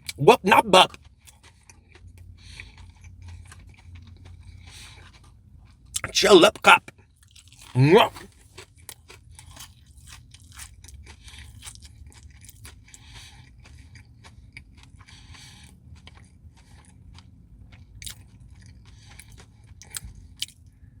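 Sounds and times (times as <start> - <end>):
person chewing and crunching: 0.0 - 20.6.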